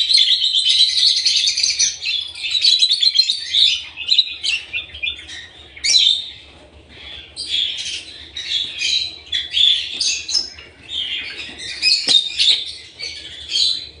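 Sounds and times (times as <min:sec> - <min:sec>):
lovebirds chirping and squeaking: 0:00.0 - 0:14.0.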